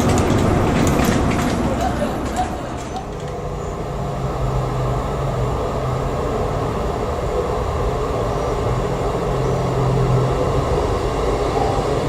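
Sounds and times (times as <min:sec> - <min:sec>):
low engine hum: 0:00.0 - 0:12.0
train rumbling on rails: 0:00.0 - 0:12.0.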